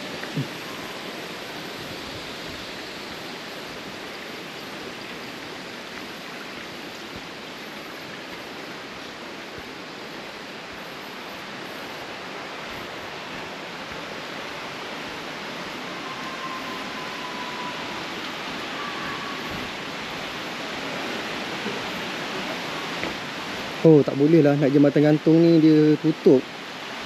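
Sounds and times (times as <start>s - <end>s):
stream and waterfall rushing: 0.0s - 27.0s.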